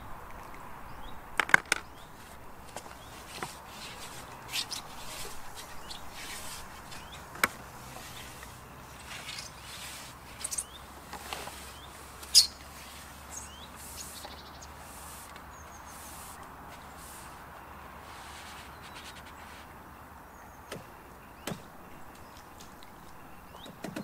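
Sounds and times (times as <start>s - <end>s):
wild birds chirping: 0.0s - 24.0s.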